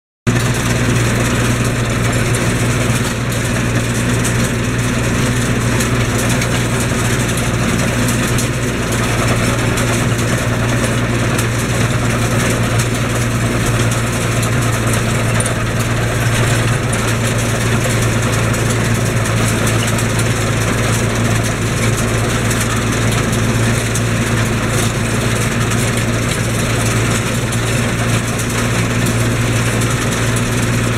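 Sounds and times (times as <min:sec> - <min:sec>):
mower reel and cutter noise: 0:00.3 - 0:30.9
tractor engine hum: 0:00.3 - 0:30.9.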